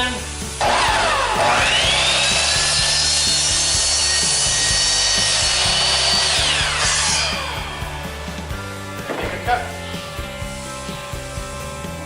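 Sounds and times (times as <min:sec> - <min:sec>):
miter saw cutting plastic pipe: 0:00.4 - 0:10.4.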